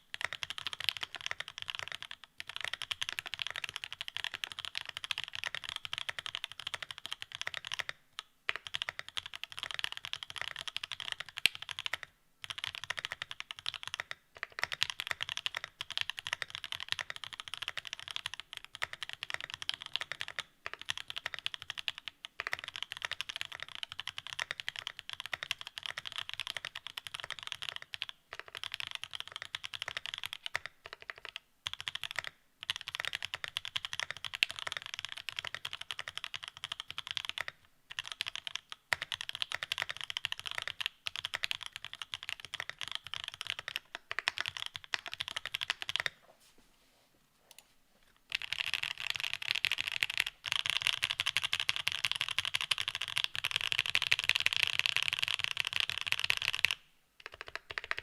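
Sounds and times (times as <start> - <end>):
fast typing on mechanical keyboard: 0.0 - 46.2, 48.3 - 58.0.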